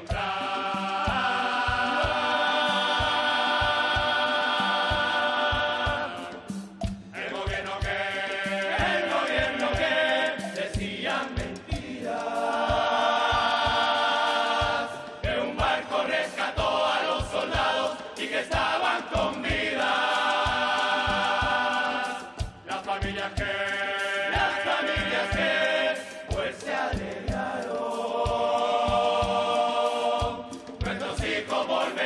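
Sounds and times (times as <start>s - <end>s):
choir singing in unison: 0.0s - 32.0s
steady drum beat: 0.0s - 32.0s.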